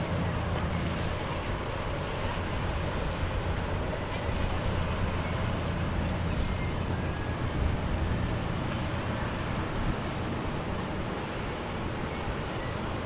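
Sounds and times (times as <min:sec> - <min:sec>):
boat engines droning: 0:00.0 - 0:13.0
water: 0:00.0 - 0:13.0
wind: 0:00.0 - 0:13.0.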